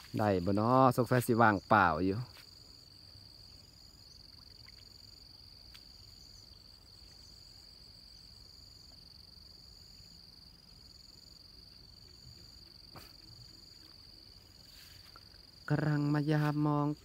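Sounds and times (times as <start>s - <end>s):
higher insect call in bursts: 0.0s - 17.0s
insect trilling: 0.0s - 17.0s.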